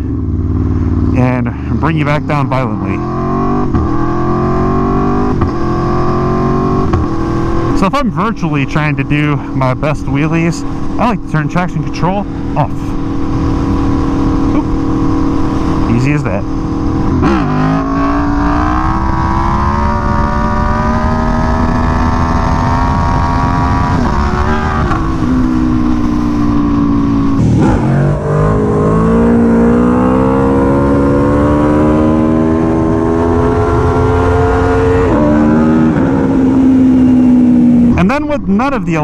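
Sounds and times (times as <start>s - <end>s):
motorcycle engine accelerating: 0.0s - 38.8s.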